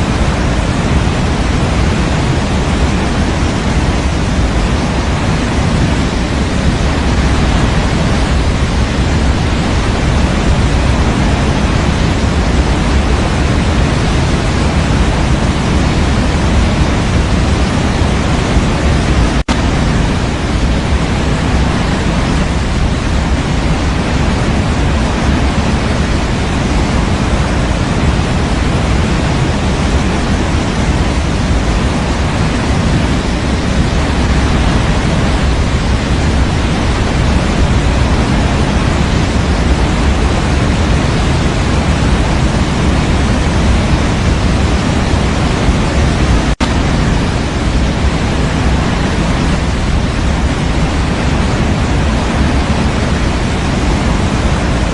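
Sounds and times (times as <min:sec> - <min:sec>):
low rushing sleep noise hiss: 0:00.0 - 0:54.9.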